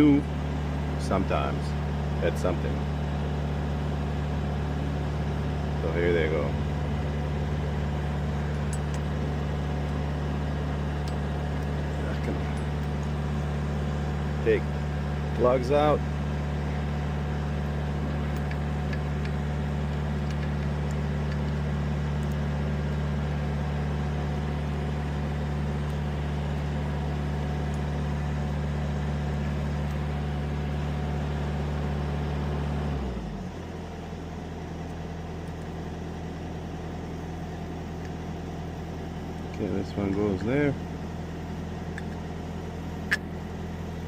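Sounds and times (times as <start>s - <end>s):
large engine idling: 0.0s - 44.0s.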